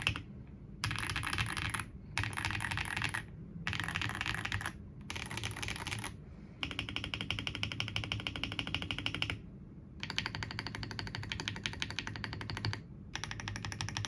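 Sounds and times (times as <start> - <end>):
mechanical keyboard typing: 0.0 - 9.4, 10.0 - 14.0.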